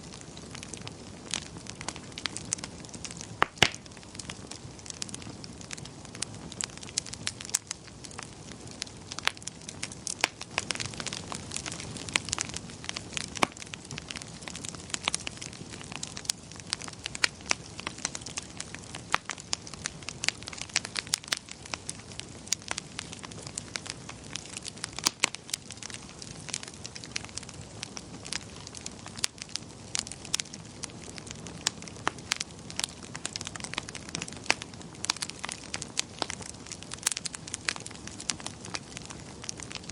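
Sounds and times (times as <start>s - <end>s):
logs crackling and popping: 0.0s - 39.9s
rush of fire flames: 0.0s - 39.9s.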